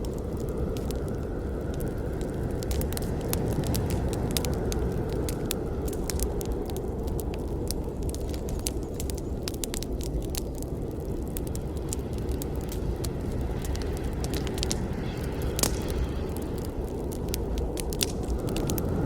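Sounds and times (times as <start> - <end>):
campfire flames rumbling: 0.0 - 19.0
wood crackling and popping: 0.0 - 19.0.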